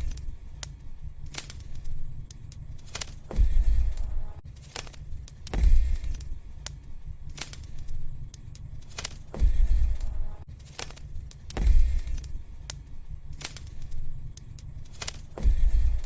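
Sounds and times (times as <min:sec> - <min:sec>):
low rumble of flames: 0:00.0 - 0:16.0
soft hiss: 0:00.0 - 0:16.0
wood fire popping: 0:00.0 - 0:16.0.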